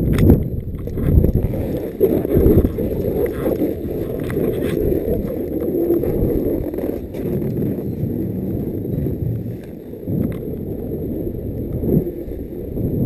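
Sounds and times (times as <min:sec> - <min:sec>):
snowboards scraping over snow: 0:00.0 - 0:13.0
wind buffeting microphone: 0:00.0 - 0:13.0.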